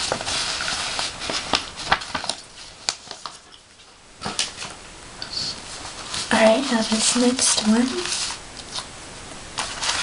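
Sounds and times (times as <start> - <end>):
paper rustling and crinkling: 0.0 - 4.8, 5.5 - 8.9, 9.6 - 10.0.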